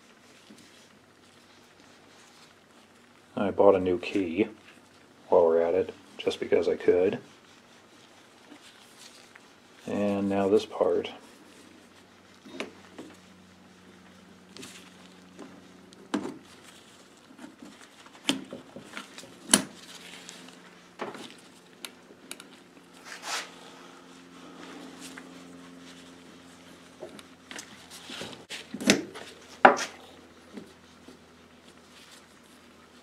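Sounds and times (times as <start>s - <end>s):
glove rustle: 0.0s - 33.0s.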